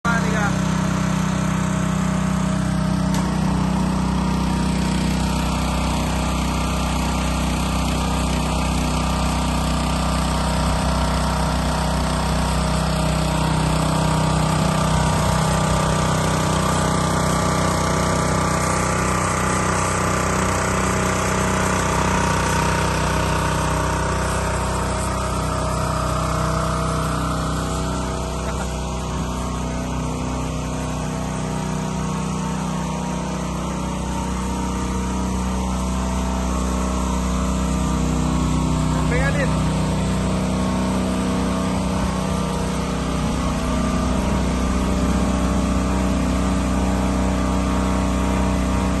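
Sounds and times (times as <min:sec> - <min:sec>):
pressure washer engine running: 0:00.0 - 0:49.0.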